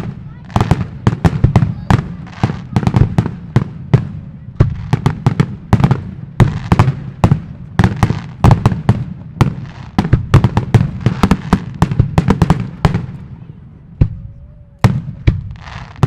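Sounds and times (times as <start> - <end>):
fireworks banging and crackling: 0.0 - 16.0.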